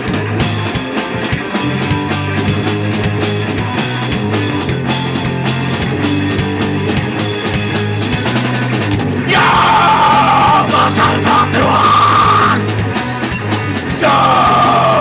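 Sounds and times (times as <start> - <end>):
bass guitar: 0.0 - 15.0
distorted electric guitar: 0.0 - 15.0
drum kit: 0.0 - 15.0.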